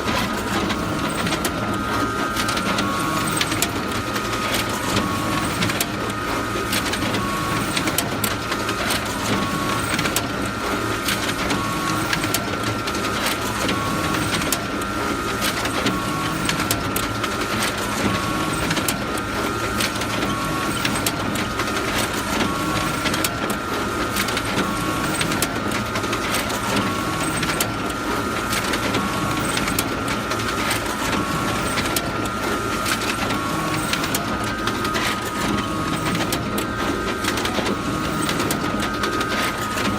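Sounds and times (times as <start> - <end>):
photocopier running: 0.0 - 39.9.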